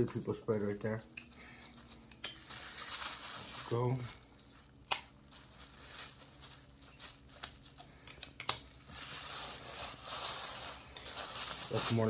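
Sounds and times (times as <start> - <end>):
plastic bag rustling: 0.0 - 8.0, 8.7 - 12.0.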